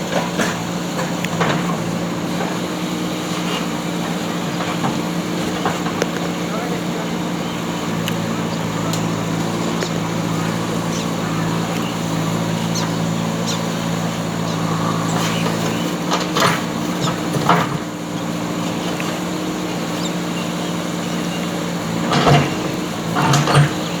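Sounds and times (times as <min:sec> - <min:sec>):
backhoe diesel engine running: 0:00.0 - 0:24.0.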